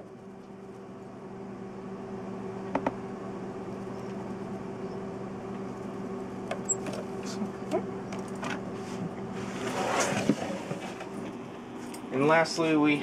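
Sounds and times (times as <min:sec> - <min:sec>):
low hum of running equipment: 0:00.0 - 0:13.0.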